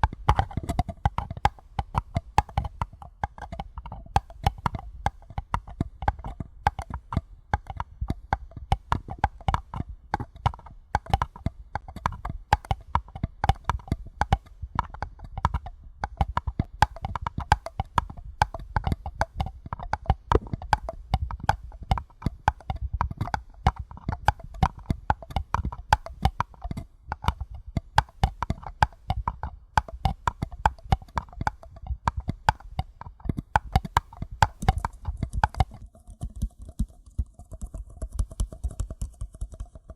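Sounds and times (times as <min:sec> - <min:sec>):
paper cups tapped: 0:00.0 - 0:39.9.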